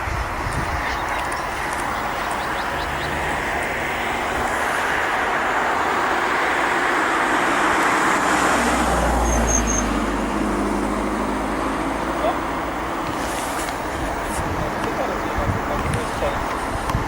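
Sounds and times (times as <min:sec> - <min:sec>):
heavy vehicle rushing: 0:00.0 - 0:17.0.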